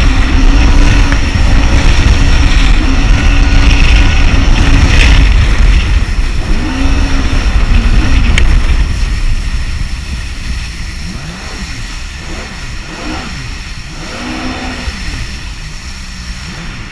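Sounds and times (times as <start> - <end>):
jet ski engine revving: 0.0 - 16.9
loud low rush: 0.0 - 16.9.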